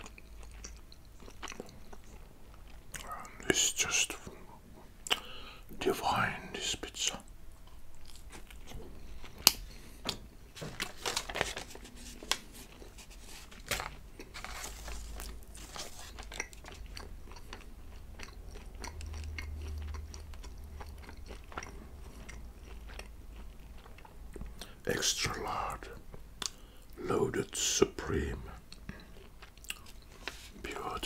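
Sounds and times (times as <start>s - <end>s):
soft chewing: 0.0s - 5.6s, 7.1s - 27.0s, 28.1s - 31.0s.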